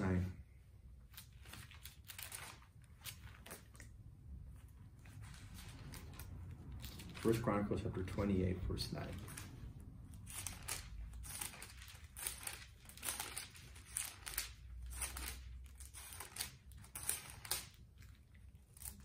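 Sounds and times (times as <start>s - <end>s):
thin pages turning: 1.0s - 19.0s.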